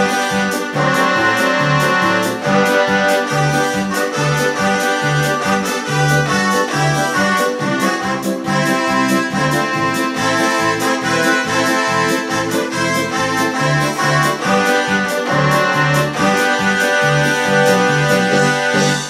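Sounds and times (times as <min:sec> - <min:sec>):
keyboard accordion voice melody: 0:00.0 - 0:19.0
repeating bass line: 0:00.0 - 0:19.0.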